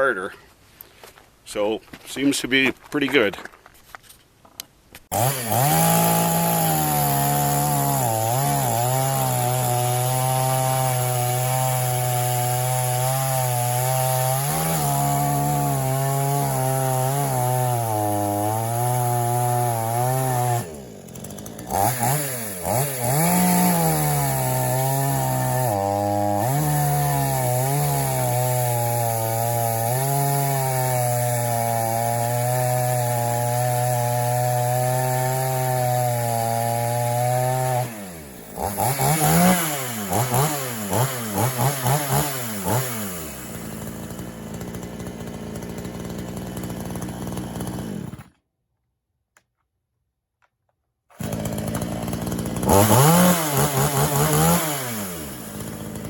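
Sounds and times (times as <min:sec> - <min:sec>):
chainsaw cutting wood: 0:05.0 - 0:48.4, 0:51.1 - 0:56.0.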